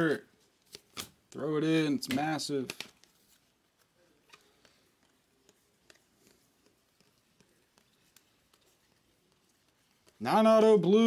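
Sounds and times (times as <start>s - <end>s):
trading cards clicking: 0.7s - 10.2s.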